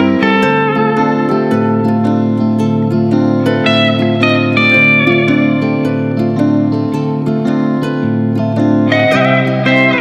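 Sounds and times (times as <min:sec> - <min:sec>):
soothing instrumental music: 0:00.0 - 0:10.0.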